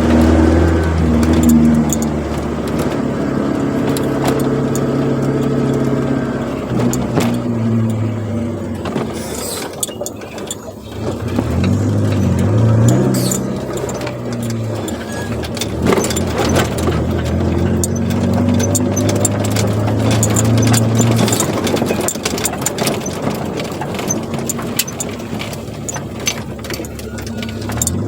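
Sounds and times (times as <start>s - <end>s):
car engine droning at low revs: 0.0s - 28.0s.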